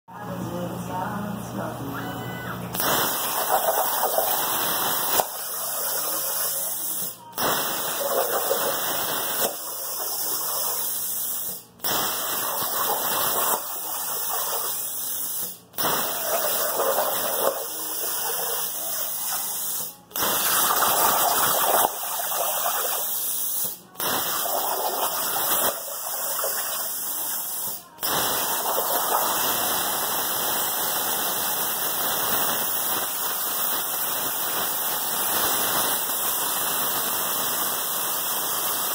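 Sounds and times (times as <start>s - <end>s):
plasma cutter hissing: 2.7s - 38.9s.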